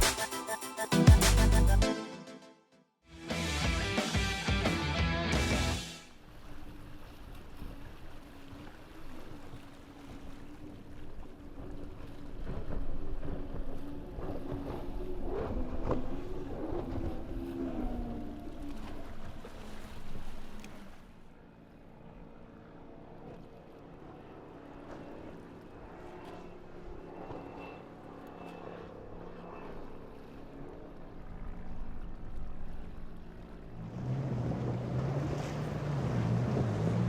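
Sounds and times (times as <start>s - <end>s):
close engine drone: 5.6s - 37.0s
motorboat engines droning: 6.1s - 37.0s.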